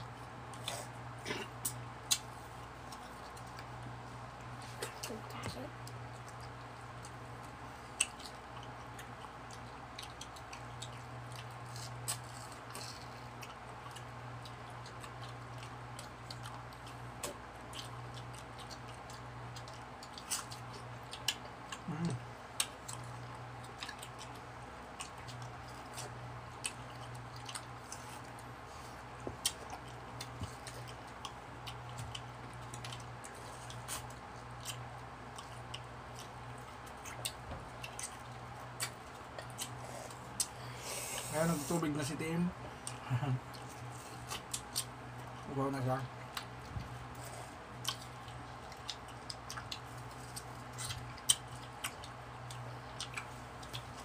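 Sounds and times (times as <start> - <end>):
people chewing mango: 0.0 - 54.0.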